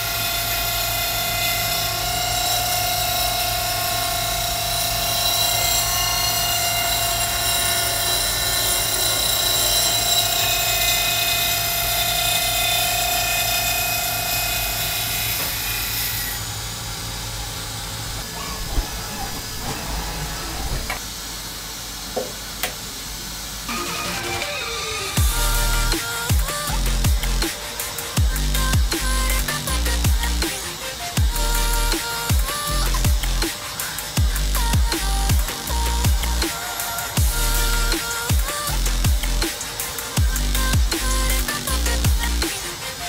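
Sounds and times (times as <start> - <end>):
saw blade cutting aluminium whine: 0.0 - 21.2, 23.7 - 43.0
machine hum: 0.0 - 43.0.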